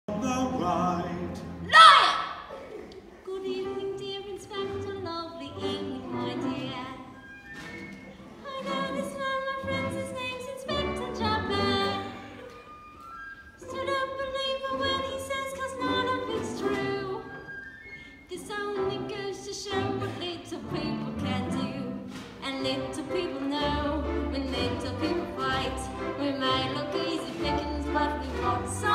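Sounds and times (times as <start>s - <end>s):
orchestra strings playing ballad: 0.1s - 1.7s, 3.2s - 28.9s.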